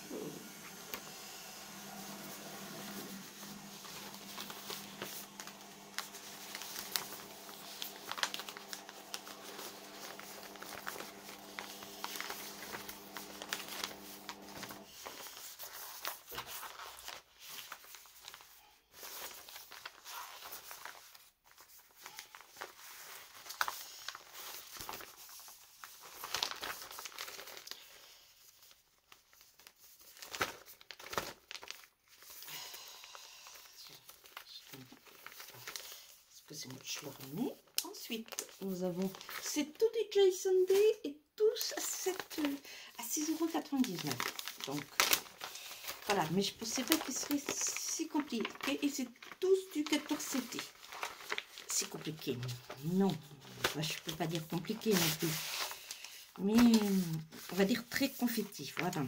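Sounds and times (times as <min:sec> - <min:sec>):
plastic packaging crinkling: 0:00.1 - 0:39.9, 0:40.6 - 0:59.0.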